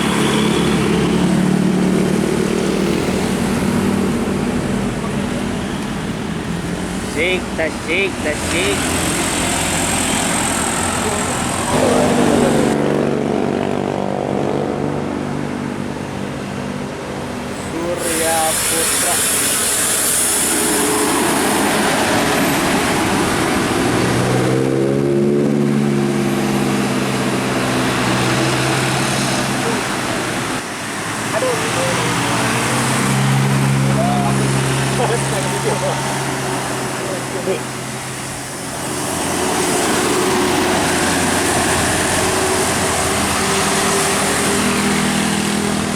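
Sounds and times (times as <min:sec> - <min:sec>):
bus passing by: 0:00.0 - 0:45.9
low engine drone: 0:00.0 - 0:45.9
road noise: 0:00.0 - 0:45.9.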